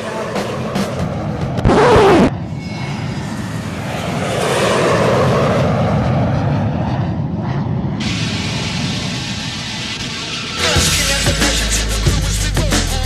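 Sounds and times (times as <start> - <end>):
rushing engine noise: 0.0 - 12.8.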